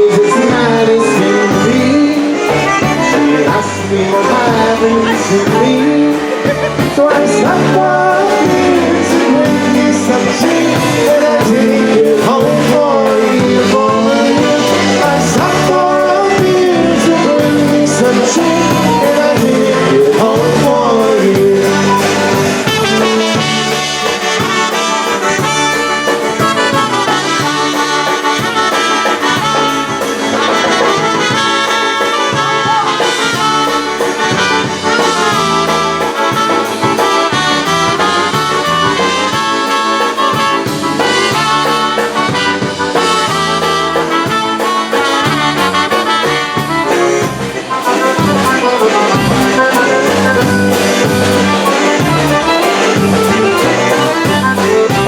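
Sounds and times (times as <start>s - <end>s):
band playing fast dance tune: 0.0s - 55.0s.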